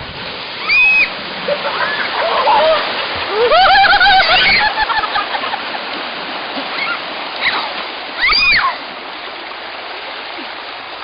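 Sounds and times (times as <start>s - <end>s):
water rushing and splashing: 0.0s - 11.0s.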